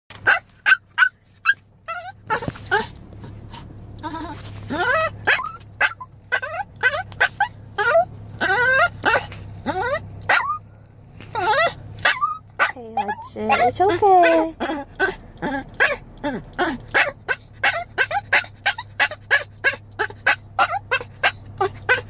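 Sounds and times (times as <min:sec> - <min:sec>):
small dog whining and yelping: 0:00.2 - 0:10.7, 0:11.3 - 0:22.0.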